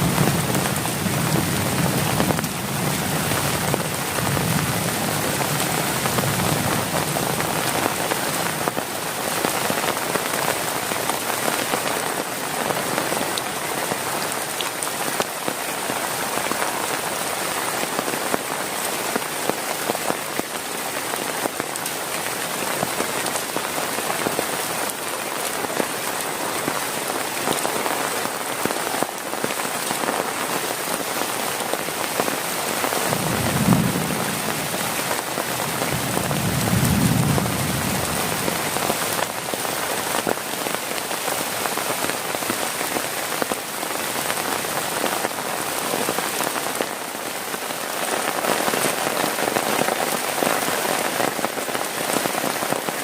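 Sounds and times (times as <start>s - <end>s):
heavy rain on plastic tarp: 0.0s - 53.0s.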